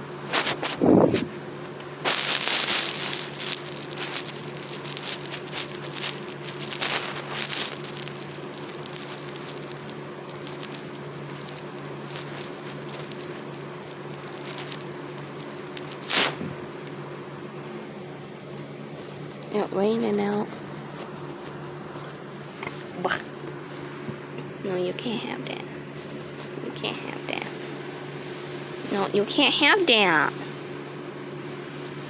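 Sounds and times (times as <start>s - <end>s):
crackling handling noise: 0.0s - 30.0s
steady low hum: 0.0s - 32.0s.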